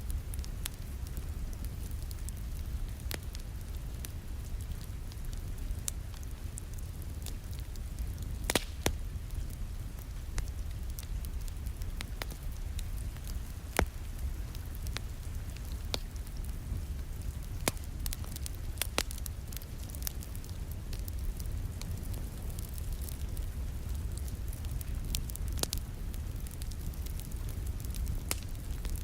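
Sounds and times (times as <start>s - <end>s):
soft rain hissing: 0.0s - 29.0s
wood fire crackling and popping: 0.0s - 29.0s.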